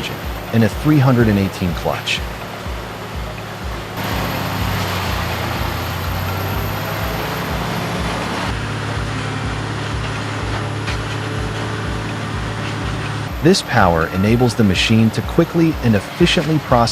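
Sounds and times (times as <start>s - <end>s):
diesel engine drone: 0.0s - 16.9s
wood being ground: 0.0s - 16.9s.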